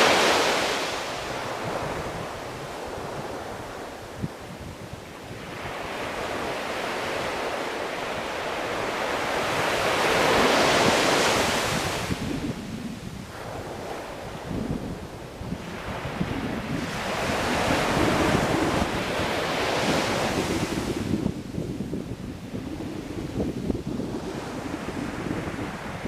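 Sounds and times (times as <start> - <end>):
sea waves washing: 0.0 - 4.5, 5.1 - 21.5.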